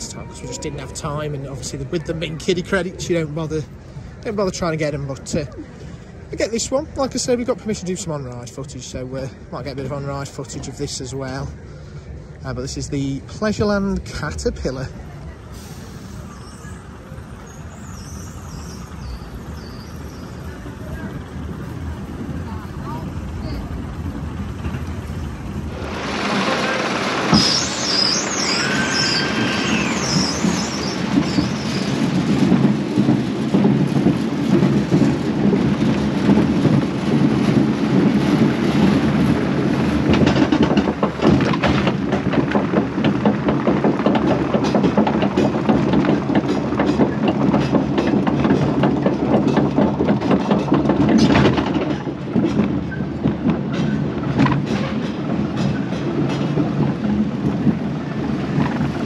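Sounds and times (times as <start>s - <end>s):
roller coaster wheels rattling: 0.0s - 59.0s.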